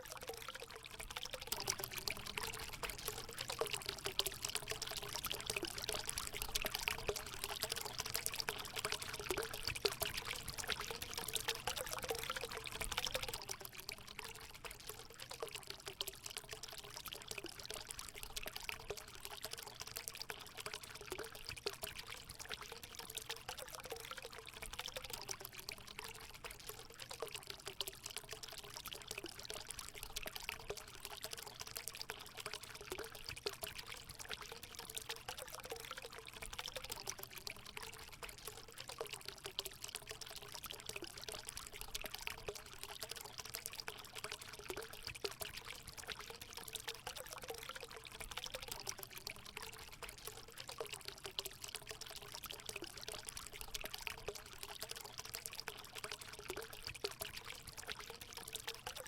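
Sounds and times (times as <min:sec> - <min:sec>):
water gurgling: 0:00.0 - 0:59.0
water pouring into pool: 0:00.0 - 0:59.0.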